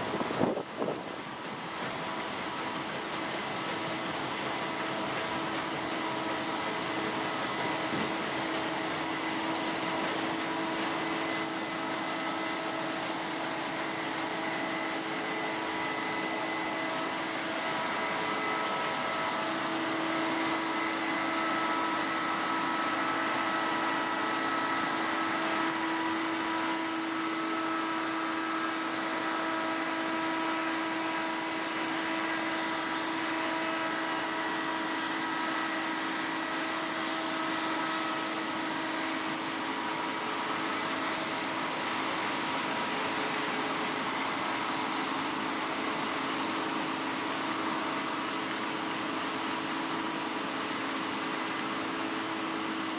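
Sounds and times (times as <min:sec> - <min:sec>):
combine harvester humming: 0:00.0 - 0:52.9
whining tones: 0:01.7 - 0:52.9.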